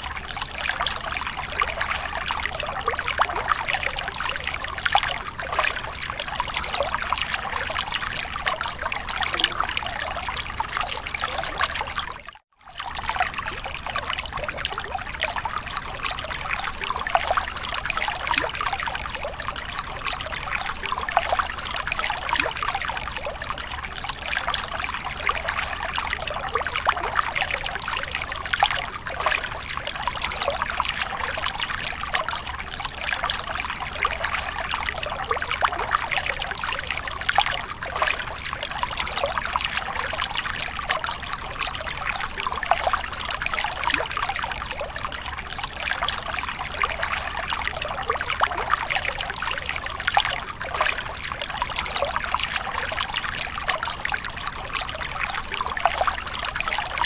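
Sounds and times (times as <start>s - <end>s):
water trickling into a pool: 0.0s - 57.0s.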